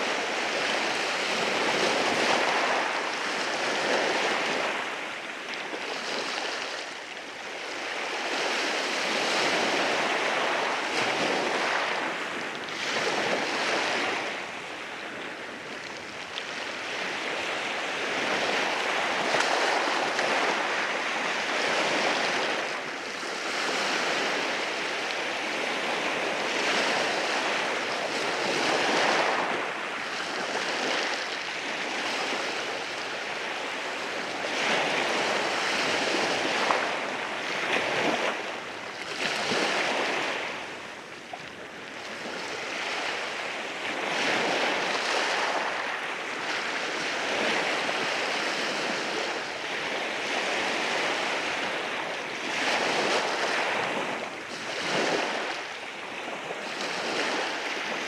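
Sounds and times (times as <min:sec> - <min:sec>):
waves washing over rocky shore: 0:00.0 - 0:58.0.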